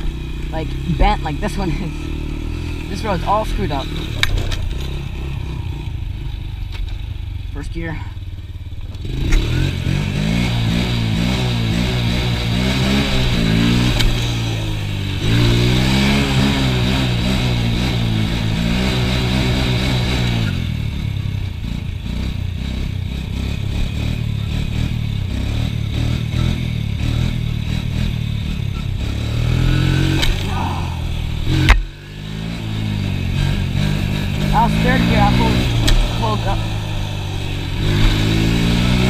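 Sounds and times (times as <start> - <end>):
atv engine accelerating: 0.0 - 39.0.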